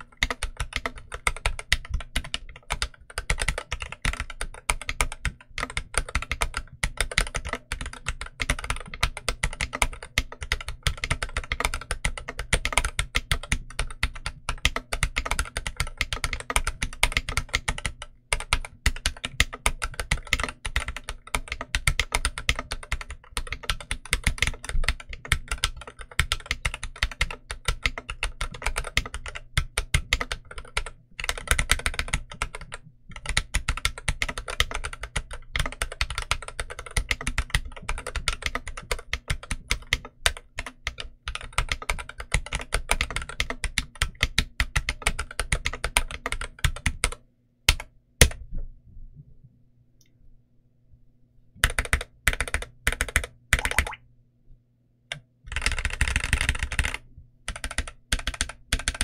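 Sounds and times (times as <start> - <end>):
mechanical keyboard typing: 0.0 - 48.4, 51.6 - 54.0, 55.5 - 59.0.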